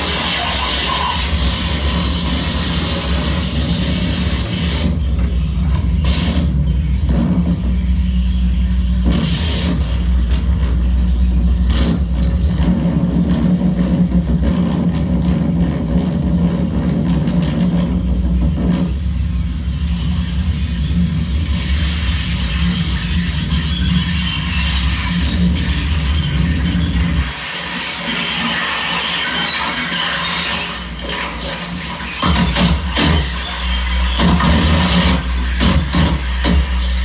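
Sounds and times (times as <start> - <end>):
loud low electronic drone: 0.0 - 37.0
noisy electronic surges: 0.0 - 37.0.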